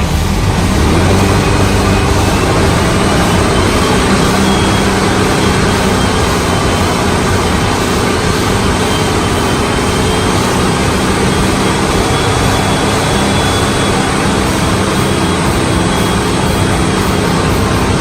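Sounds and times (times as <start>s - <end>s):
car engine running steadily: 0.0s - 18.0s.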